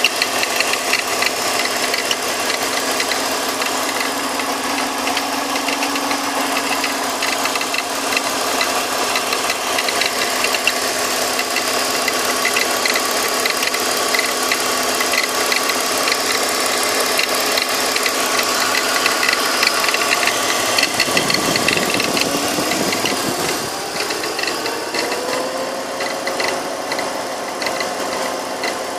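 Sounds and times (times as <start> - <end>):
car engine running with ticking: 0.0 - 28.9.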